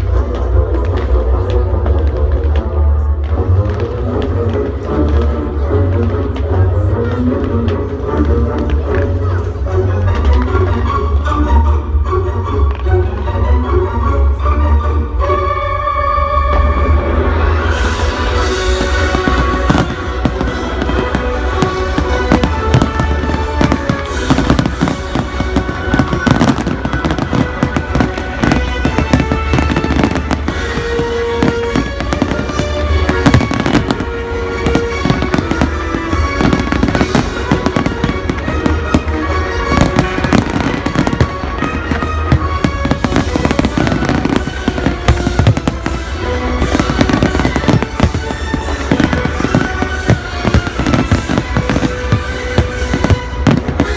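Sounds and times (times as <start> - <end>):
fireworks bangs and crackles: 0.0 - 11.6, 16.6 - 53.9
loud music soundtrack: 0.0 - 53.9.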